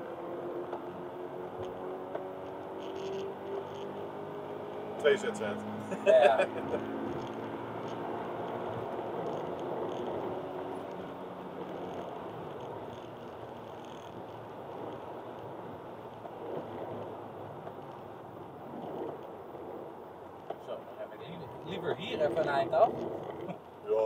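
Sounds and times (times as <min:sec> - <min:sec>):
car engine pulling hard: 0:00.0 - 0:20.0.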